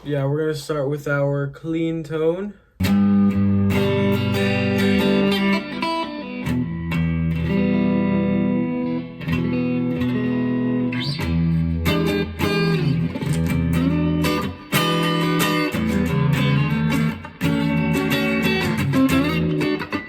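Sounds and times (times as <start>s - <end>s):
clean electric guitar playing: 2.8s - 20.0s.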